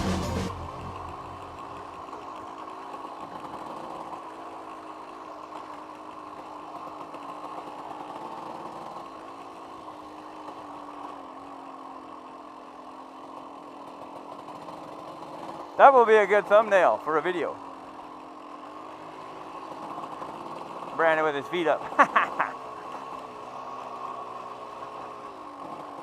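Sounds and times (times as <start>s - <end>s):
two-stroke dirt bike engine: 0.0s - 26.0s.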